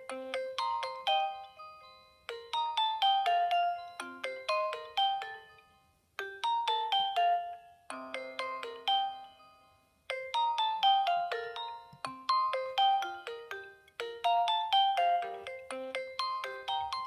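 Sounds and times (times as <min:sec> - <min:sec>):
phone ringtone melody: 0:00.0 - 0:17.0.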